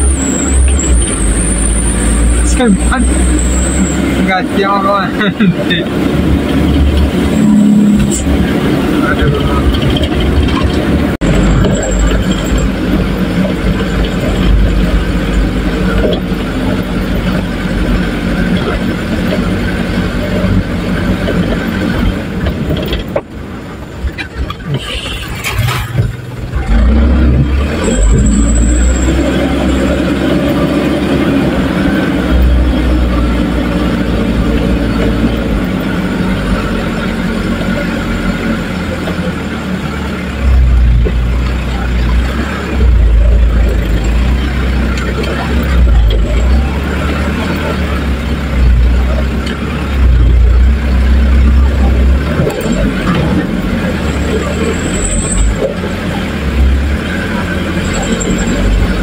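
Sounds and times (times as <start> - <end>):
vehicle engine running: 0.0 - 59.0
knocks and rattles over bumps: 2.1 - 59.0.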